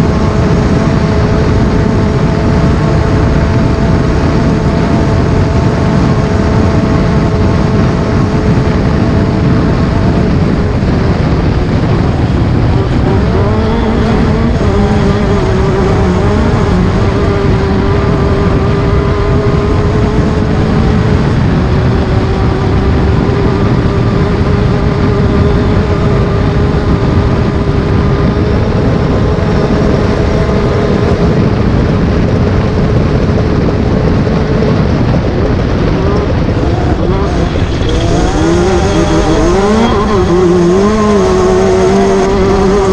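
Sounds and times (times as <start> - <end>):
heavy rumble: 0.0 - 42.9
race car engine at high revs: 0.0 - 42.9.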